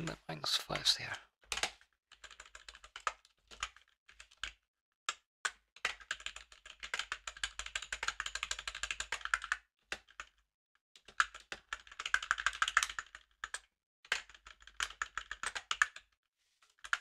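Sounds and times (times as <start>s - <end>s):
typing on computer keyboard: 1.4s - 10.4s, 11.0s - 16.1s, 16.7s - 17.0s.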